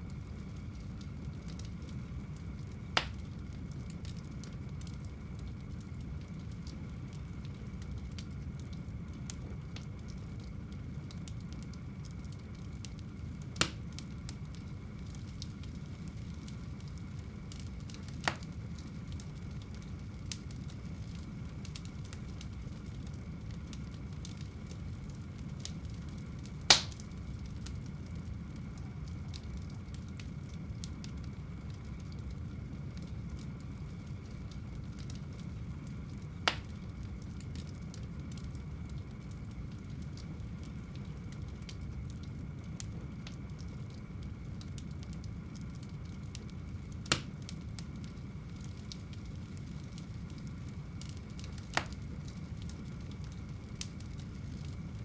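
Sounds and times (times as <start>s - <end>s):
fireplace fire crackling: 0.0s - 55.0s
sharp pops from fire: 0.2s - 32.2s, 33.0s - 43.8s, 44.6s - 55.0s.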